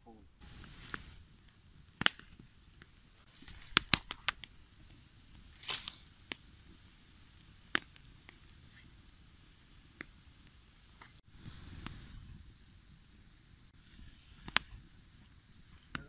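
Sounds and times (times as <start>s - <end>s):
fire hiss: 0.0s - 16.0s
wood fire crackling and popping: 0.0s - 16.0s.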